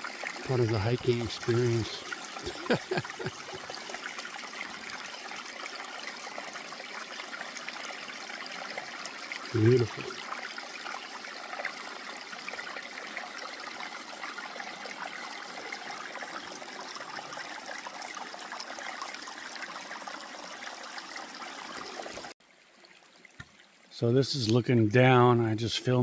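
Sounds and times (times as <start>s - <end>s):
stream trickling and splashing: 0.0s - 26.0s.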